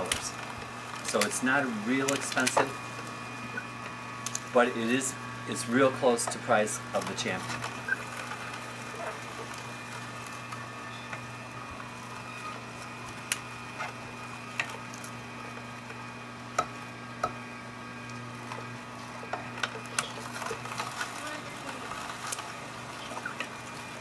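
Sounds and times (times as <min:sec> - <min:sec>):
juicer motor hum: 0:00.0 - 0:24.0.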